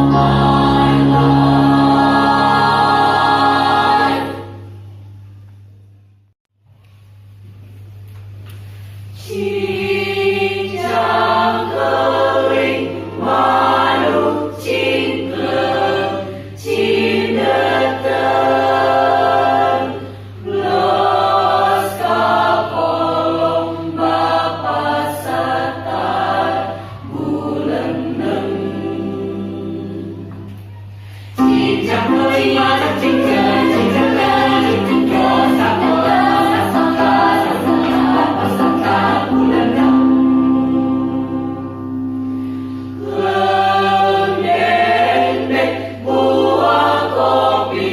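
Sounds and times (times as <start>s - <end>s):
choir singing in parts: 0.0s - 4.9s, 9.2s - 47.9s
steady low hum: 0.0s - 47.9s.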